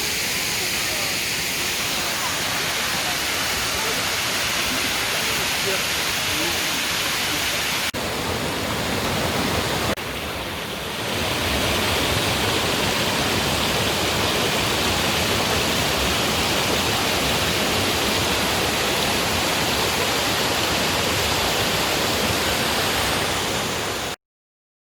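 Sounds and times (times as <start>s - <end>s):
waterfall roaring: 0.0s - 24.2s.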